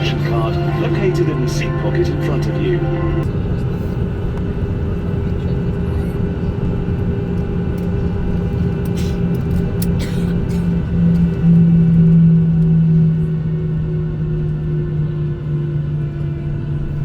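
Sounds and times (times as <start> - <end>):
aircraft cabin engine rumble: 0.0 - 17.0
low hum: 0.0 - 17.0.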